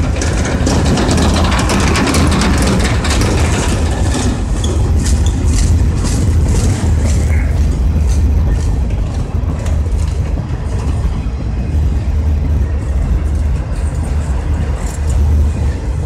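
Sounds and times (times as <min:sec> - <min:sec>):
steel wheels rumbling on rail: 0:00.0 - 0:16.0
wheels and couplers clanking: 0:00.0 - 0:16.0.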